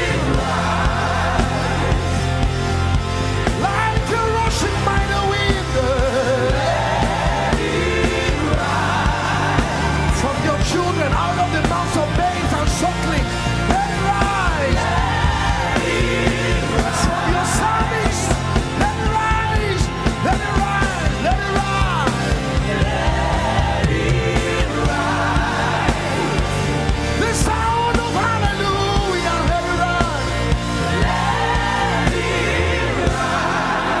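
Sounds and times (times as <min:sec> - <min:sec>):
gospel band with bass and drums: 0:00.0 - 0:34.0.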